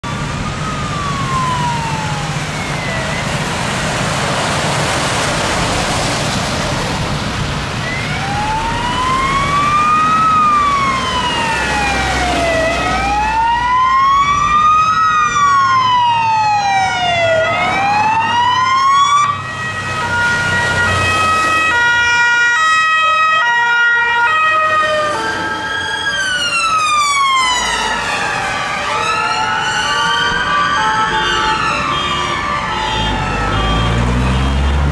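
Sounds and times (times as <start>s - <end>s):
two-tone siren: 0.0s - 3.8s, 7.8s - 34.9s
heavy diesel engines: 0.0s - 22.8s, 23.4s - 34.9s
road traffic rumble: 0.0s - 34.9s
wailing sirens: 0.0s - 34.9s.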